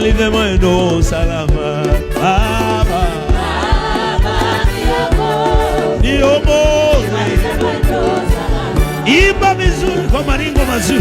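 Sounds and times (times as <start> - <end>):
band beat with bass: 0.0 - 11.0
voices singing praise chorus: 0.0 - 11.0.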